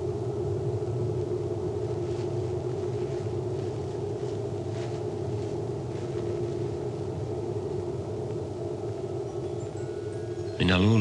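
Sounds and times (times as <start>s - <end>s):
low droning hum: 0.0s - 11.0s
low rumble: 0.0s - 11.0s
faint soft rustles: 0.8s - 10.9s.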